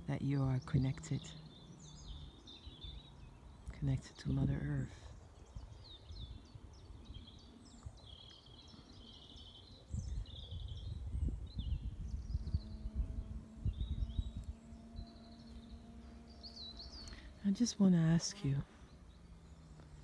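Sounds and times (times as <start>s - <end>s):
faint steady drone: 0.0s - 10.3s, 11.0s - 20.0s
low rumble on microphone: 0.0s - 20.0s
small birds chirping: 0.0s - 20.0s.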